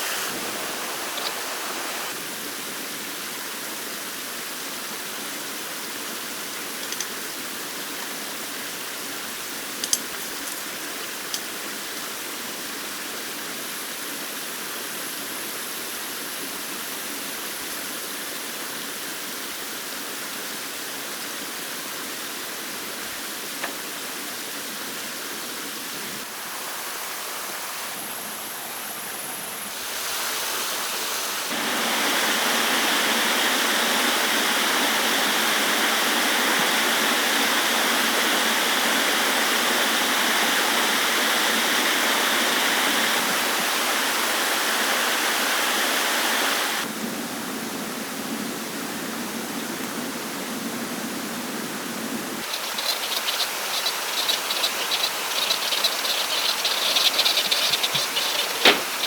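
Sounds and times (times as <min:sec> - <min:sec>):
running water rushing: 0:00.0 - 0:46.9, 0:51.6 - 0:59.0.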